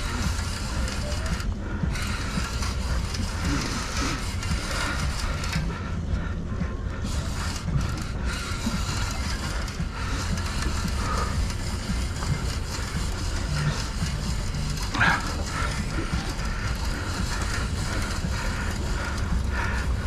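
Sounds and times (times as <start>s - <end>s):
fishing reel whirring: 0.0s - 20.0s
low rumble of boat and wind: 0.0s - 20.0s.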